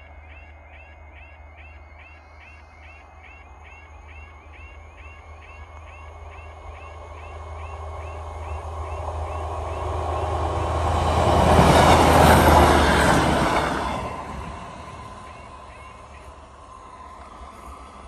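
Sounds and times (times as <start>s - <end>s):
train passing rumble: 0.0s - 18.0s
crossing warning alarm chirping: 0.3s - 17.9s.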